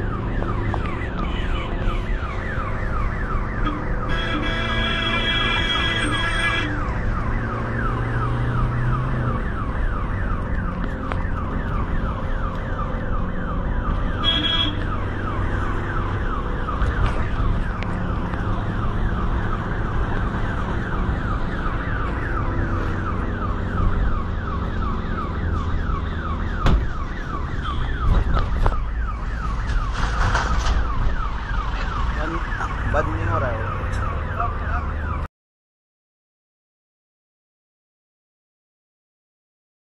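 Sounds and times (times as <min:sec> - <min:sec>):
ambulance siren yelping: 0:00.0 - 0:35.3.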